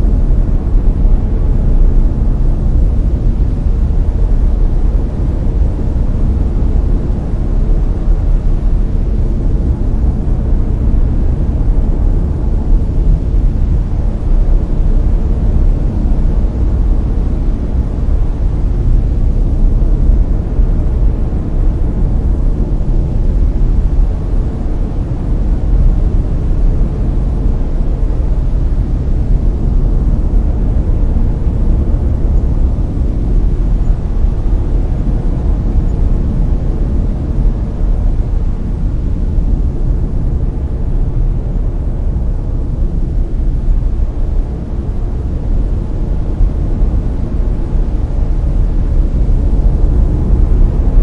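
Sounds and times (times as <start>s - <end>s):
brown noise: 0.0s - 51.0s.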